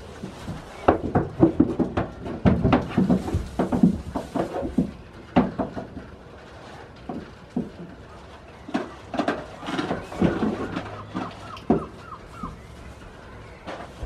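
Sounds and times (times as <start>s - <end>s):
goat hooves knocking and scraping: 0.0s - 14.0s.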